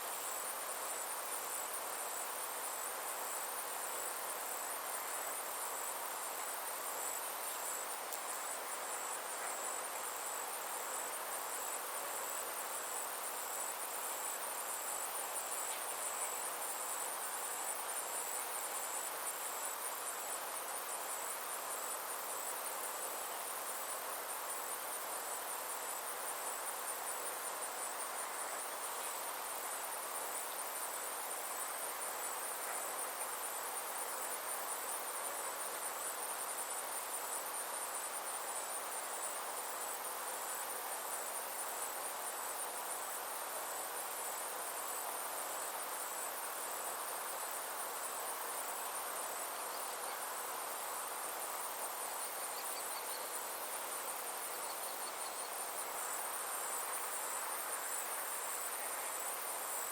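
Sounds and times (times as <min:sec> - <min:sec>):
insects trilling: 0:00.0 - 0:59.9
soft hiss: 0:00.0 - 0:59.9.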